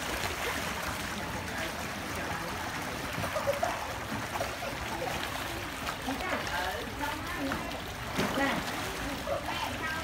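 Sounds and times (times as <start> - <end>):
water gurgling and sloshing: 0.0 - 10.0.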